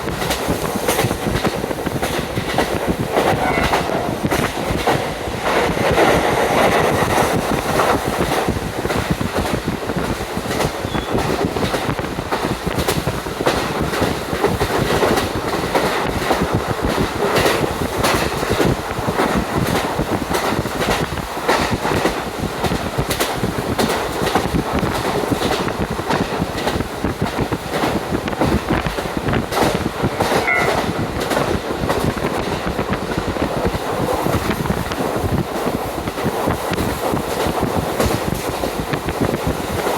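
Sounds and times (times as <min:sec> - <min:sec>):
wheels clicking over rail joints: 0:00.0 - 0:39.9
wind rushing through train window: 0:00.0 - 0:39.9.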